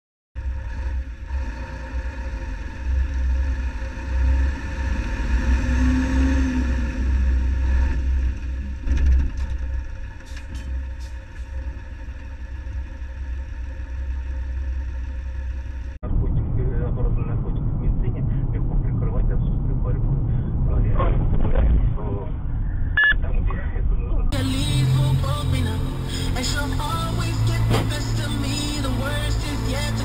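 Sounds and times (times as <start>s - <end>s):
truck engine and road noise: 0.4s - 30.0s.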